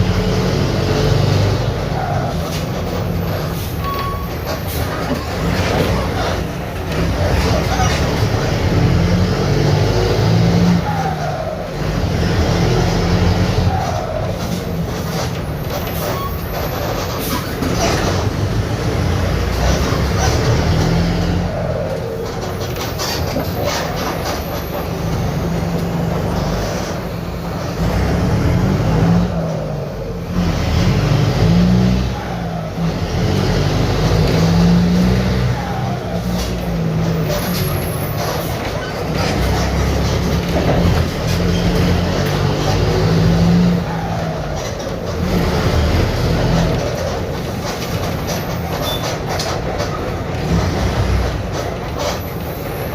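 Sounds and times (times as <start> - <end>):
bus diesel engine revving: 0.0 - 52.9.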